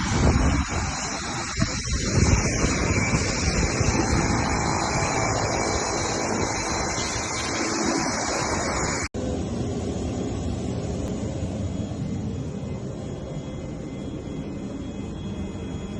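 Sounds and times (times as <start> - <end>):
jet engines running: 0.0 - 15.9.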